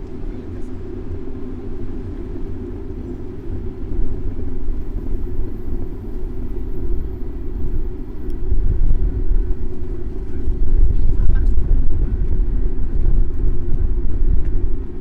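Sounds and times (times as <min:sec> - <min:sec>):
bicycle ride rumble: 0:00.0 - 0:15.0
city traffic: 0:00.0 - 0:15.0.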